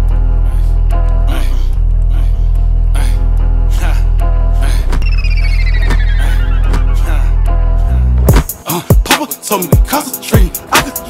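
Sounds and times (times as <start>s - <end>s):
deep steady bass music: 0.0s - 11.0s.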